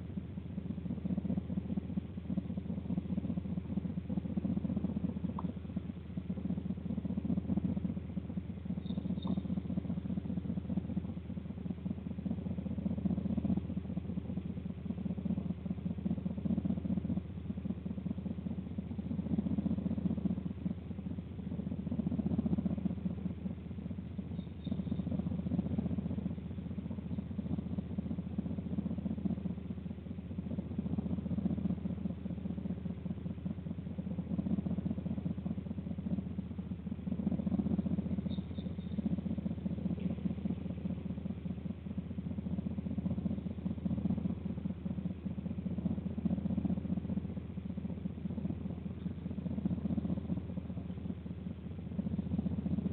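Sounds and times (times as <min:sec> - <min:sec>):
low mechanical hum: 0:00.0 - 0:52.9.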